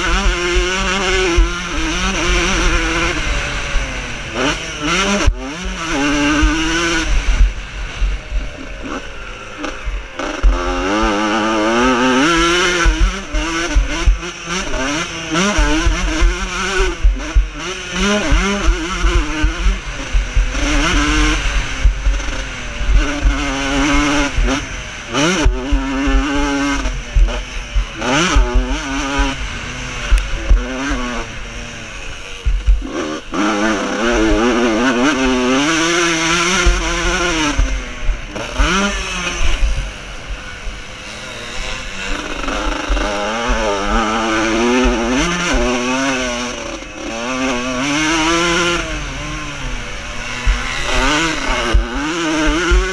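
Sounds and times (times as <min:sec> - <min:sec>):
motocross motorcycles revving: 0:00.0 - 0:52.9.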